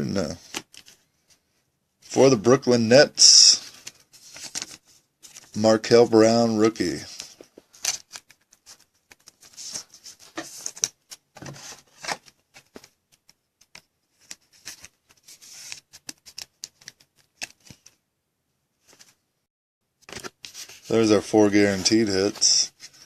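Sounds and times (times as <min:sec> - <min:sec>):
cards sliding and rustling: 0:00.4 - 0:01.4, 0:03.2 - 0:05.6, 0:06.2 - 0:18.0, 0:18.8 - 0:19.2, 0:20.0 - 0:23.0.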